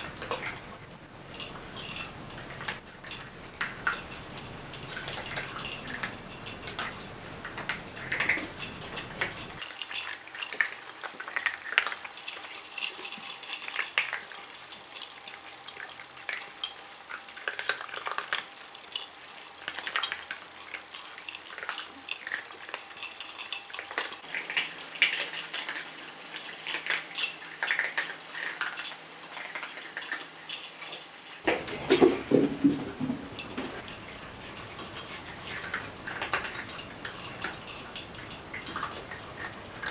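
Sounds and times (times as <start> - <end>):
cats crunching dry kibble: 0.0 - 39.9
kibble clicking against bowls: 0.0 - 39.9.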